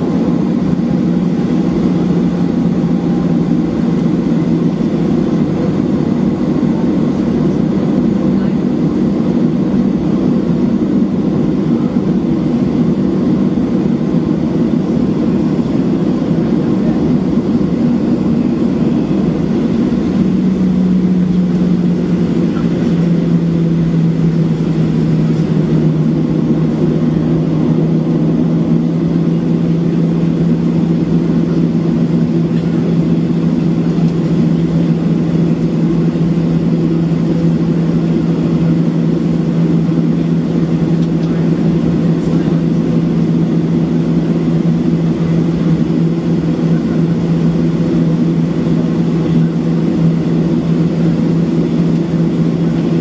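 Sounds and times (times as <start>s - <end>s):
cabin air rush and rumble: 0.0s - 53.0s
jet engines at low power: 0.0s - 53.0s
steady low hum: 0.0s - 53.0s.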